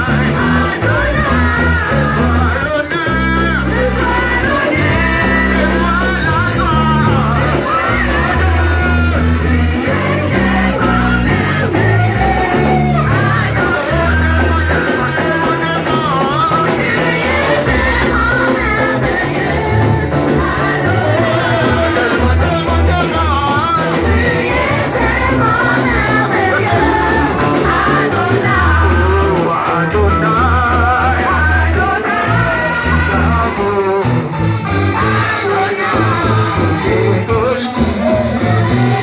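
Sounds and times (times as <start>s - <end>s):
bass line: 0.0s - 39.0s
guitar: 0.0s - 39.0s
worship singing: 0.0s - 39.0s.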